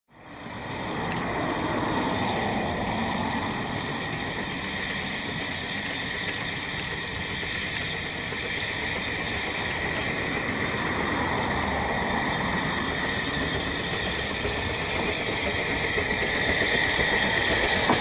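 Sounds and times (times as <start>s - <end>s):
distant steam locomotive approaching: 0.1s - 18.0s.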